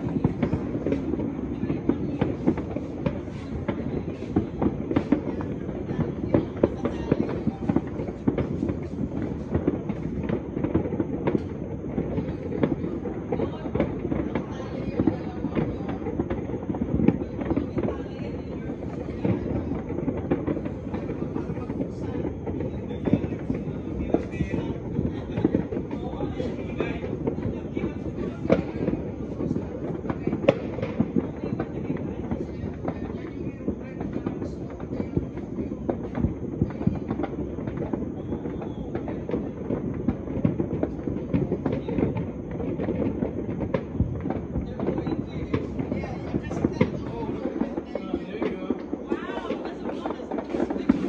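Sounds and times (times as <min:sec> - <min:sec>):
fireworks and firecrackers crackling: 0:00.0 - 0:51.0.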